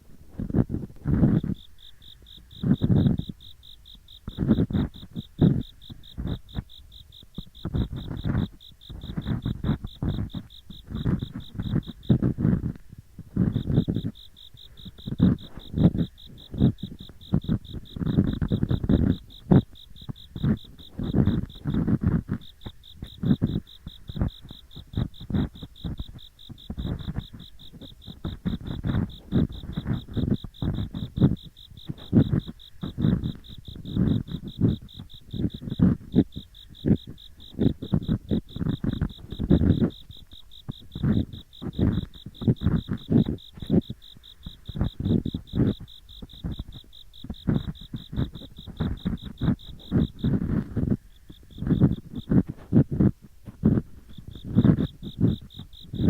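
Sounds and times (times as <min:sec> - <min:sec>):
ear picks scraping microphone: 0:00.0 - 0:03.5, 0:04.2 - 0:56.0
insects chirping: 0:00.2 - 0:56.0.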